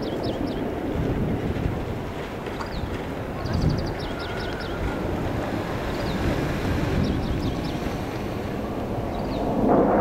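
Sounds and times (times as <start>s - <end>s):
distant jets rumbling: 0.0s - 10.0s
wind buffeting microphone: 0.0s - 10.0s.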